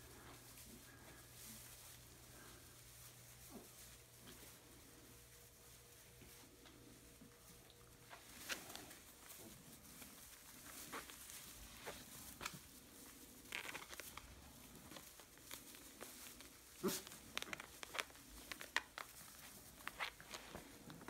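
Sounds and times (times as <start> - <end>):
rustling of dry straw: 0.0 - 21.0.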